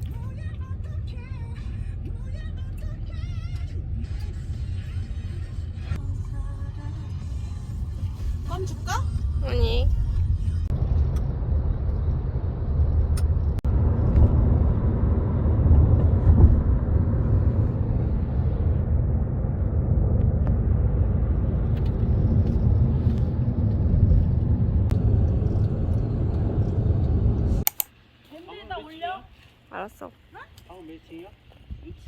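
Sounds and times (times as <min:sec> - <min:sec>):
car road and engine rumble: 0:00.0 - 0:28.2.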